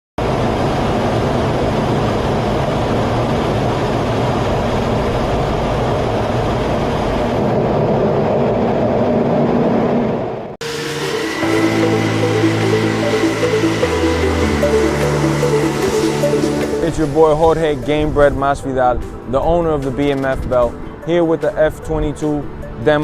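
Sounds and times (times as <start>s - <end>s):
fighter jet engine roar: 0.2s - 23.0s.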